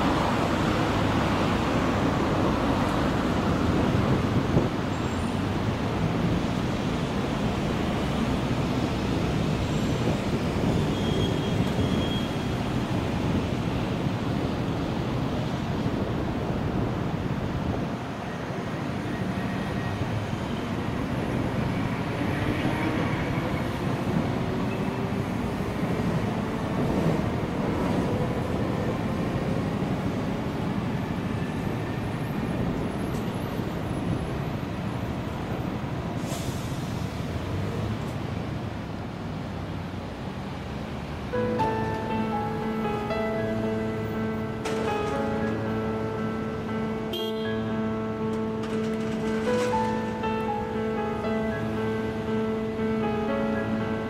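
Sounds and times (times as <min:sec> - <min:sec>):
electric tram passing: 0:00.0 - 0:54.0
road traffic noise: 0:00.0 - 0:54.0.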